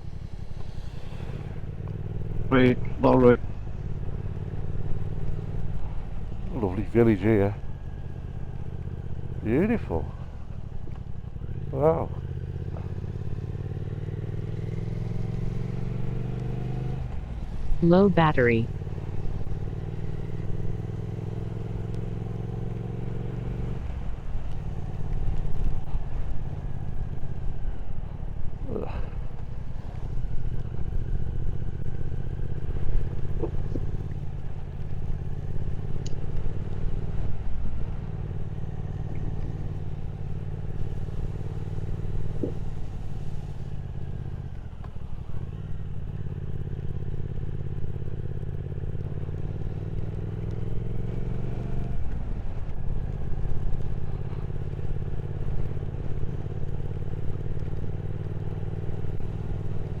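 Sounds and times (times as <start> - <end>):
motorcycle engine at road speed: 0.0 - 60.0.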